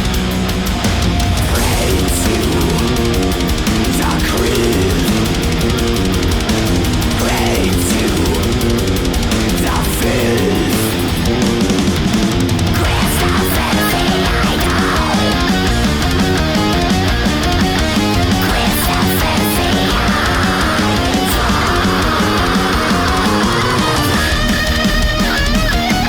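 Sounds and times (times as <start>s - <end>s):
distorted electric guitars: 0.0s - 26.0s
fast drumming: 0.0s - 26.0s.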